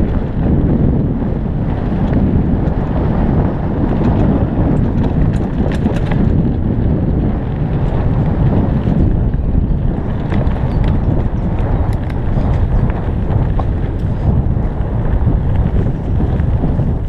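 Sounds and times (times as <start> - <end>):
bike rattling clicks: 0.0 - 17.0
tyres rumbling on dirt: 0.0 - 17.0
wind buffeting microphone: 0.0 - 17.0.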